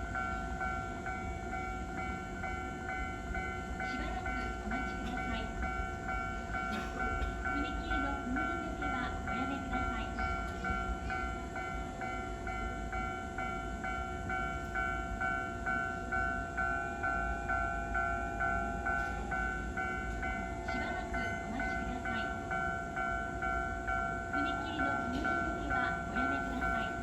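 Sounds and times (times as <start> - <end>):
level-crossing warning bell ringing: 0.0 - 27.0.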